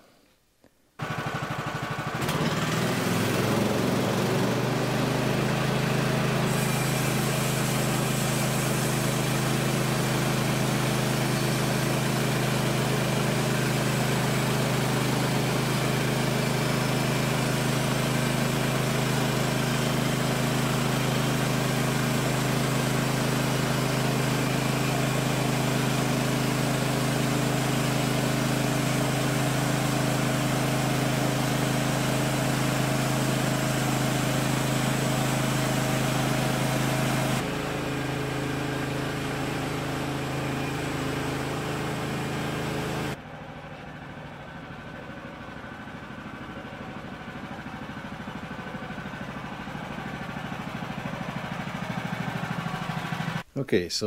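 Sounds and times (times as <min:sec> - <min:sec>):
sawmill engine revving: 0:01.0 - 0:53.5.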